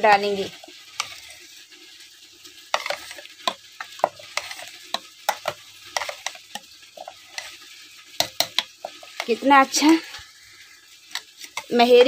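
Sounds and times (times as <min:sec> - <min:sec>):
metal ladle stirring porridge: 0:00.1 - 0:01.7, 0:02.6 - 0:10.2, 0:11.0 - 0:12.0.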